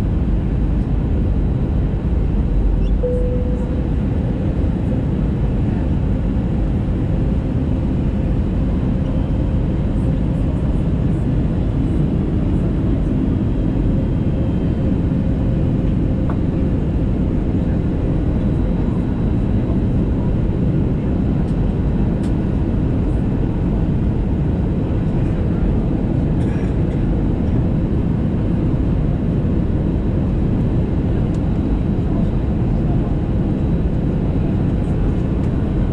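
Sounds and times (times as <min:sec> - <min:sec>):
airplane cabin engine noise: 0:00.0 - 0:35.9.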